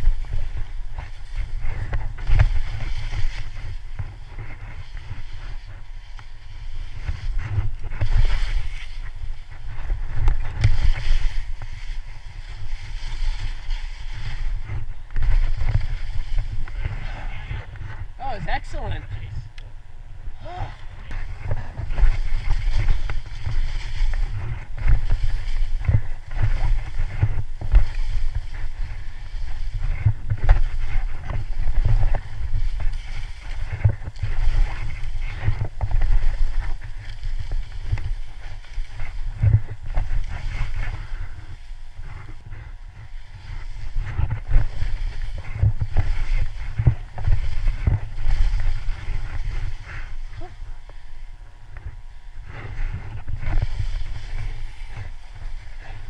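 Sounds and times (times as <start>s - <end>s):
skis scraping through snow: 0.0s - 19.4s, 20.4s - 56.0s
wind buffeting microphone: 0.0s - 56.0s.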